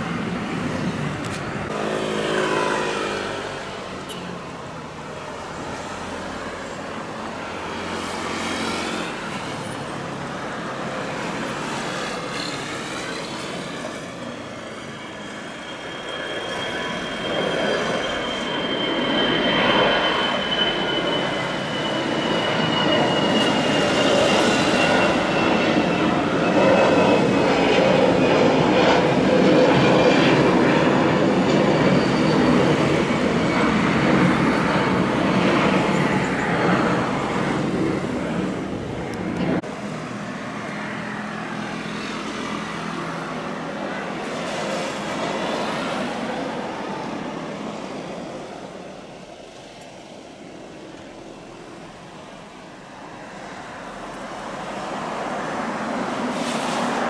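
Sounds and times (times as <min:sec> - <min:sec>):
jet engines roaring at takeoff: 0:00.0 - 0:57.0.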